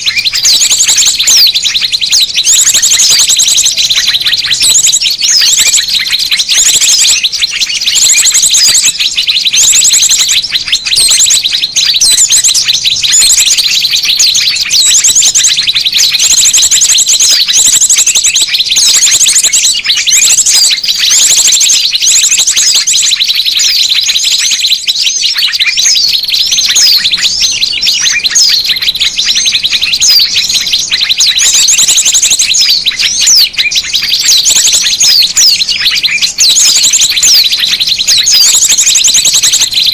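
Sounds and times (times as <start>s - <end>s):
fast bird trill: 0.0s - 39.9s
songbirds chirping chorus: 0.0s - 39.9s.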